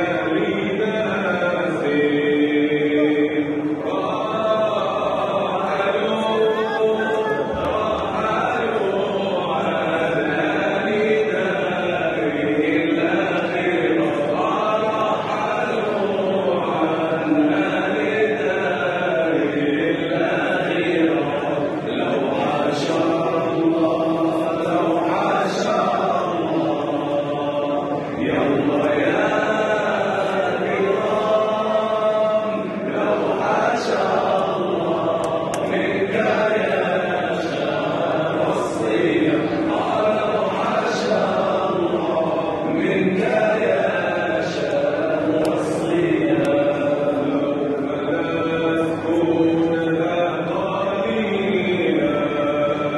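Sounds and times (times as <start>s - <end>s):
amplified man chanting: 0.0s - 52.9s.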